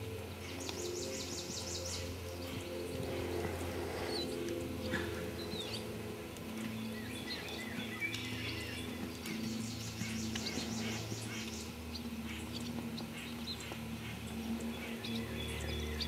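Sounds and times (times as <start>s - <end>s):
steady low hum: 0.0s - 16.0s
small birds chirping: 0.2s - 16.0s.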